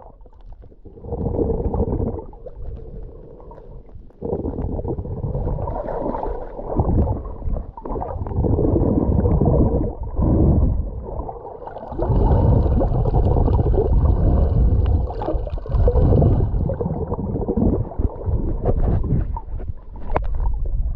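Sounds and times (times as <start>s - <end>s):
sea water churning: 0.0s - 20.6s
wind rumbling on microphone: 0.0s - 20.9s.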